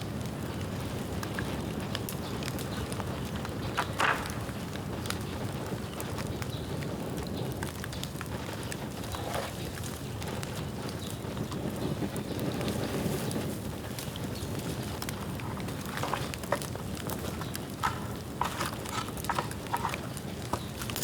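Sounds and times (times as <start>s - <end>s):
rumble of flames: 0.0s - 21.0s
bamboo crackling: 0.1s - 21.0s.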